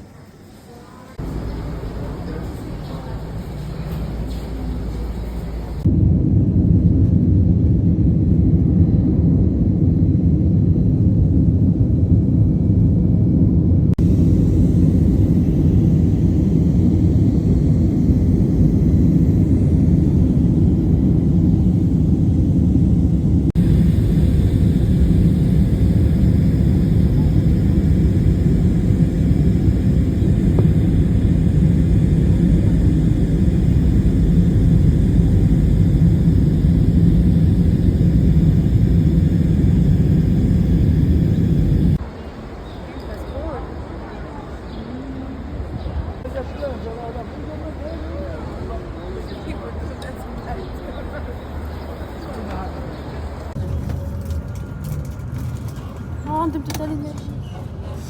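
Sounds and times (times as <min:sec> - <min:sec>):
low engine rumble: 0:01.1 - 0:58.0.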